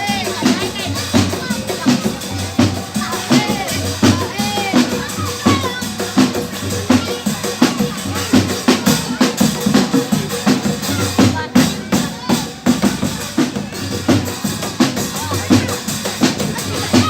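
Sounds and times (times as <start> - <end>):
drum kit beat: 0.0 - 17.0
street band music: 0.0 - 17.0.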